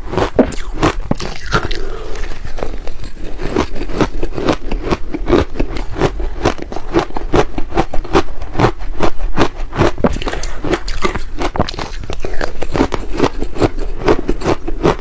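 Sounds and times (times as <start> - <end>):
ice crunching being chewed: 0.0 - 15.0.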